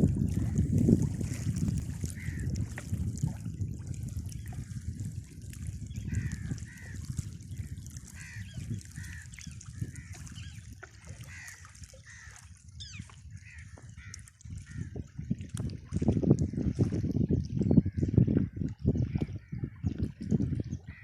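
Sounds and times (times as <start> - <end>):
lake water washing: 0.0 - 21.0.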